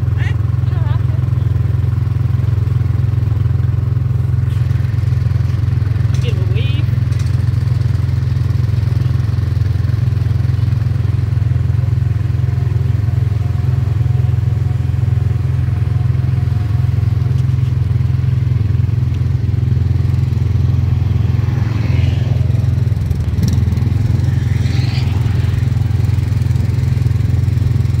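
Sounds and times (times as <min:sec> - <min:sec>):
ride car engine droning: 0:00.0 - 0:28.0.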